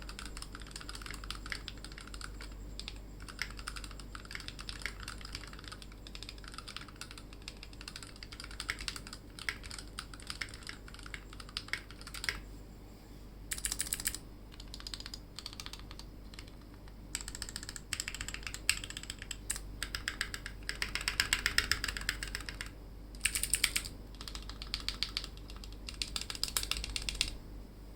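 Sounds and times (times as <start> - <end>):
mechanical keyboard typing: 0.0 - 12.4, 13.5 - 27.4.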